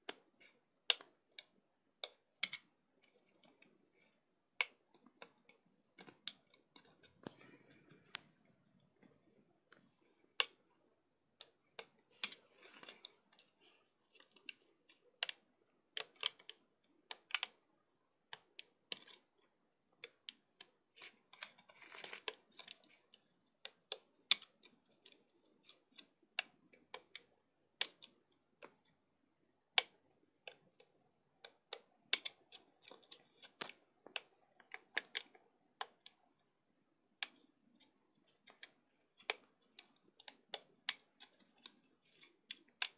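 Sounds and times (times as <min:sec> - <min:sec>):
plastic hook clicking on pegs: 0:00.0 - 0:07.4, 0:11.3 - 0:29.0, 0:29.6 - 0:36.5, 0:37.2 - 0:42.9.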